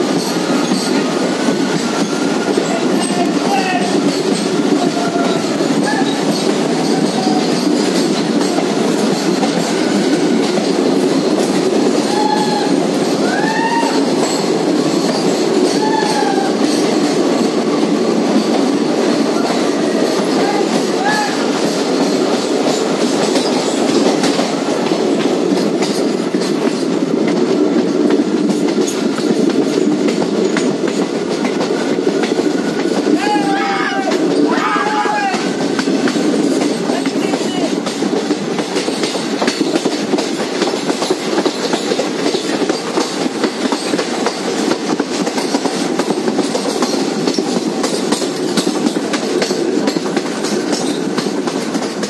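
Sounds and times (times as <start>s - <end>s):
wheels squealing against rails: 0.0s - 24.5s, 28.5s - 52.0s
rail-joint clicks: 0.0s - 52.0s
train wheels rumbling on rails: 0.0s - 52.0s.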